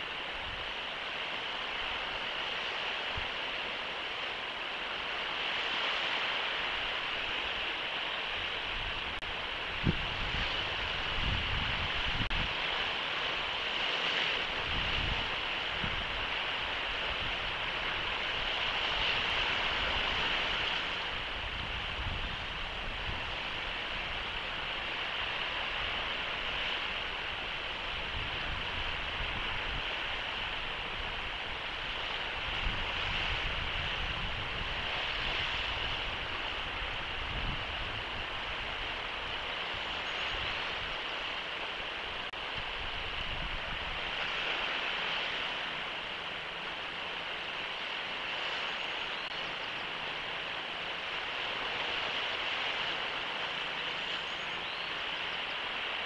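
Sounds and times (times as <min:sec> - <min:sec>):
surf hissing: 0:00.0 - 0:56.0
wind rumbling on microphone: 0:00.0 - 0:56.0.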